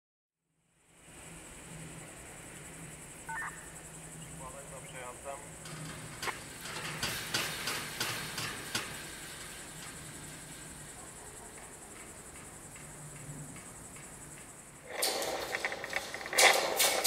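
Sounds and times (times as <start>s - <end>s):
crickets chirping: 0.5s - 17.0s.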